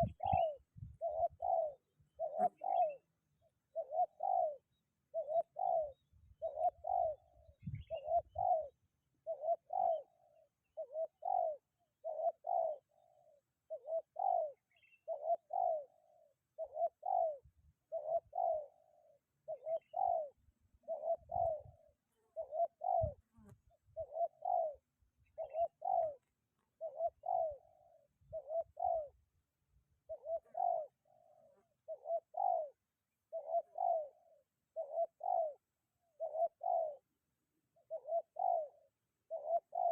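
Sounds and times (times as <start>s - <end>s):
dove cooing: 0.0s - 3.1s, 3.7s - 29.2s, 30.1s - 37.1s, 37.8s - 39.9s.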